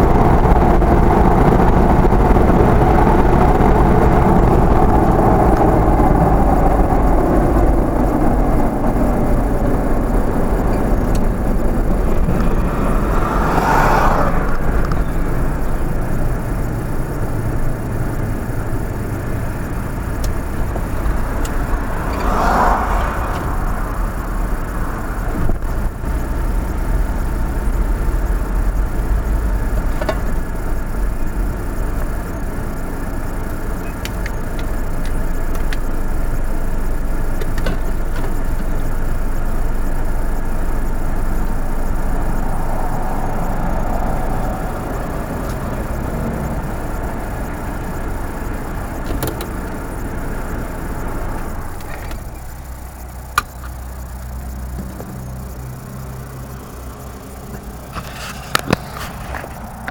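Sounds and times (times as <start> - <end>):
car engine and tyres on gravel: 0.0 - 59.9.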